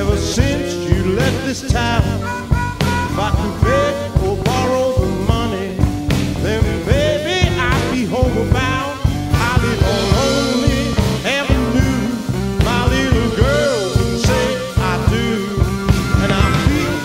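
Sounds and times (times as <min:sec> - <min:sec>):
bass: 0:00.0 - 0:17.0
bending sliding lead guitar line: 0:00.0 - 0:17.0
drums: 0:00.0 - 0:17.0.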